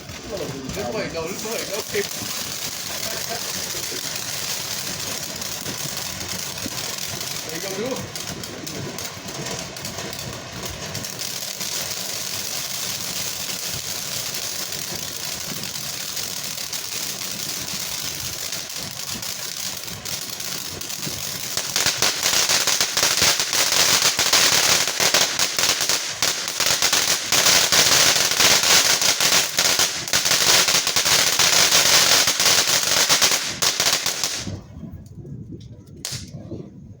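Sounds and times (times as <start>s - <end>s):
firework crackling and hissing: 0.0s - 37.0s.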